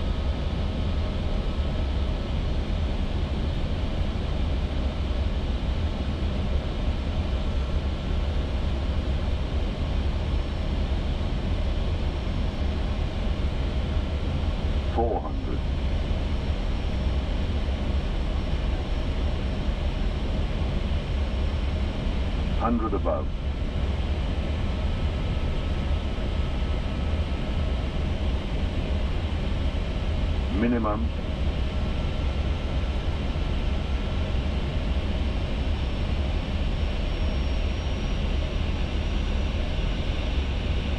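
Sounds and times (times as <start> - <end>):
cockpit airflow and engine rumble: 0.0 - 40.9.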